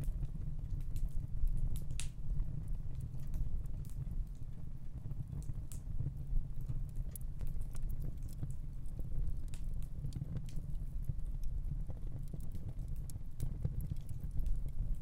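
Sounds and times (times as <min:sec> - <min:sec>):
faint crackles and ticks: 0:00.0 - 0:15.0
gas fireplace flames rumbling: 0:00.0 - 0:15.0.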